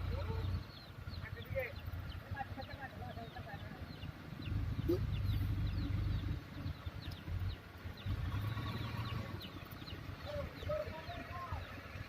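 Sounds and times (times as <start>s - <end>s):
diesel truck engine rumbling: 0.0s - 12.0s
small birds chirping: 0.0s - 12.0s.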